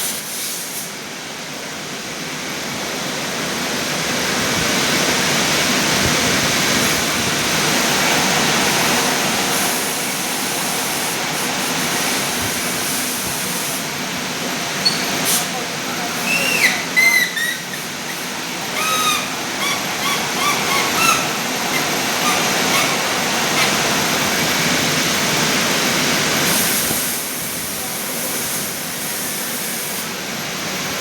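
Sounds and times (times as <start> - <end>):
car wash spraying water: 3.4 - 19.5, 21.2 - 30.0.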